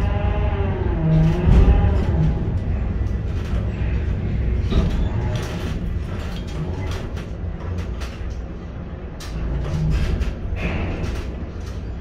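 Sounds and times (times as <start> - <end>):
low crane machinery rumble: 0.0 - 12.0
clicks and rattles: 1.2 - 12.0.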